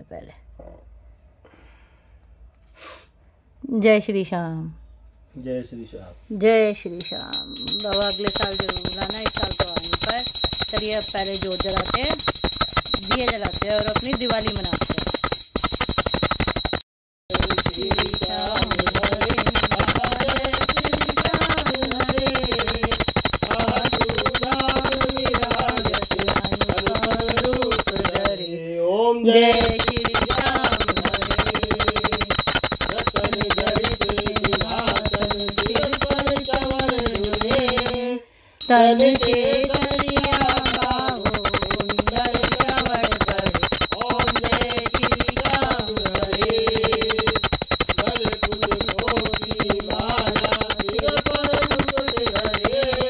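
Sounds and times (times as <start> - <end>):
bell ringing rapidly: 6.9 - 28.6, 29.4 - 53.0.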